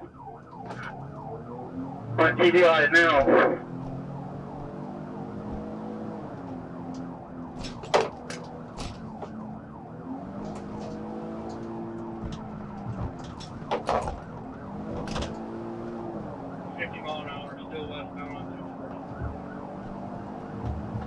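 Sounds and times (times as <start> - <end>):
car engine and road noise: 0.0 - 21.0
police siren wailing: 0.0 - 21.0.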